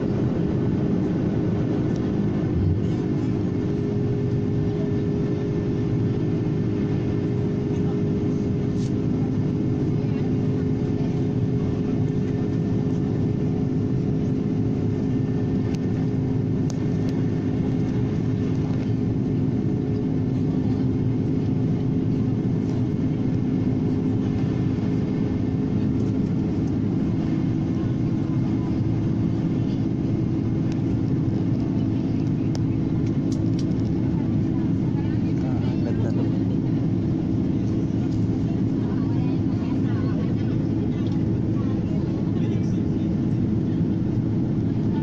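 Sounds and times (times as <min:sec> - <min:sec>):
jet airliner cabin drone: 0:00.0 - 0:45.0.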